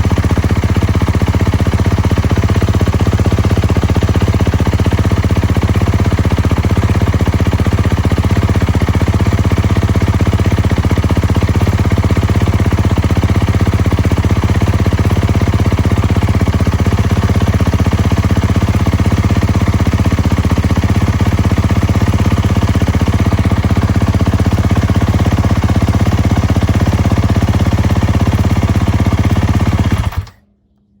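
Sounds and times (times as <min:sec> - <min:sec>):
motorcycle engine idling: 0:00.0 - 0:30.4.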